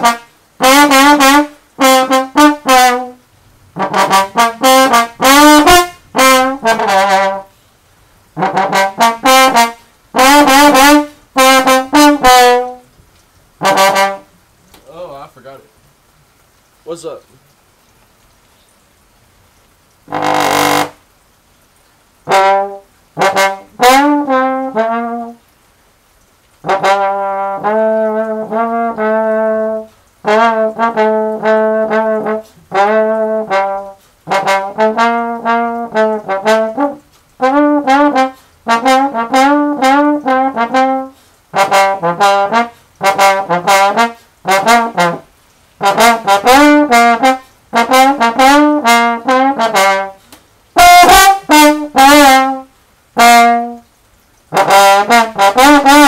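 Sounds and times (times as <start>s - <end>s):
solo trombone melody: 0.0s - 14.6s, 19.9s - 21.2s, 22.2s - 56.0s.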